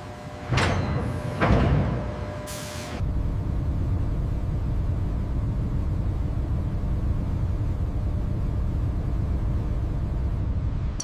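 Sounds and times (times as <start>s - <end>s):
industrial machinery rumbling: 0.0s - 11.0s.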